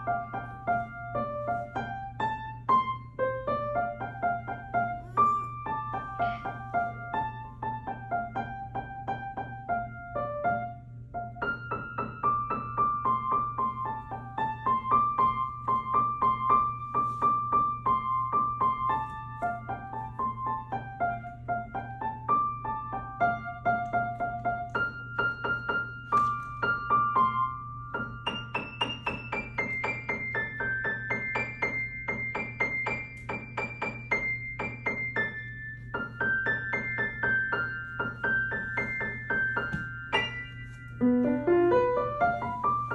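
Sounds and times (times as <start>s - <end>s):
child playing piano melody: 0.0s - 42.9s
faint low hum: 0.0s - 42.9s.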